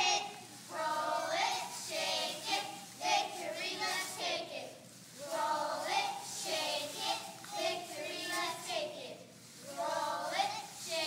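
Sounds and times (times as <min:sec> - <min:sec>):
girls chanting a cheer: 0:00.0 - 0:11.0.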